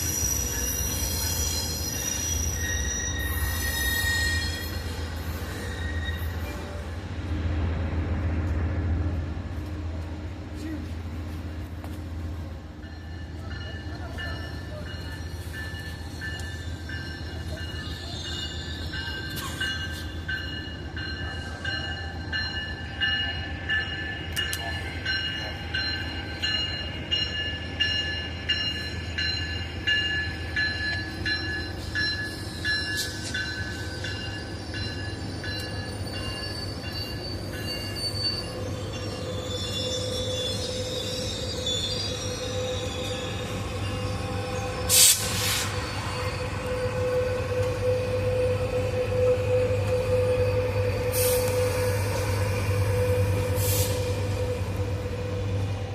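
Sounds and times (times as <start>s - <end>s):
train wheels squealing: 0.0s - 7.0s, 12.8s - 55.9s
low train rumble: 0.0s - 55.9s.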